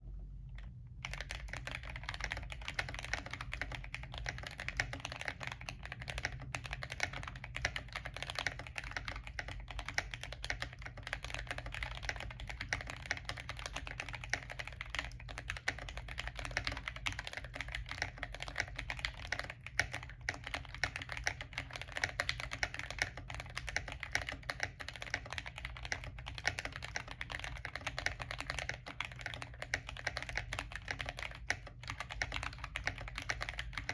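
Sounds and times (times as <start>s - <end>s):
mechanical keyboard typing: 1.0s - 33.9s.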